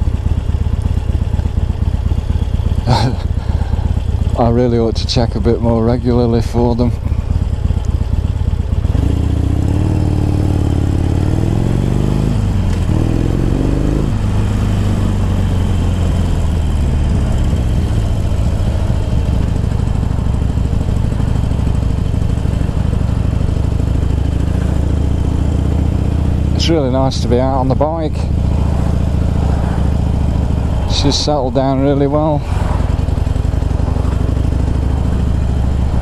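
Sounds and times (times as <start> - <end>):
motorcycle engine while riding: 0.0 - 36.0.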